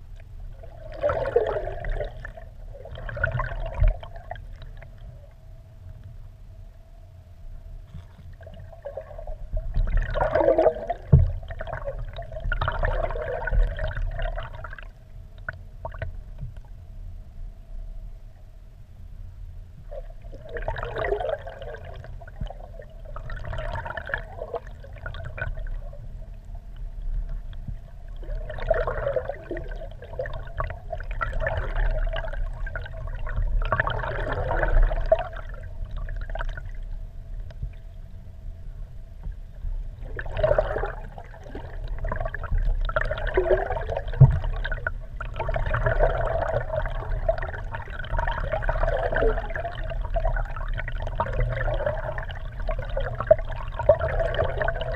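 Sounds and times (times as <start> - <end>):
faint steady hum: 0.0 - 54.9
low rumble: 0.0 - 54.9
muffled water gurgling and sloshing: 0.0 - 54.9.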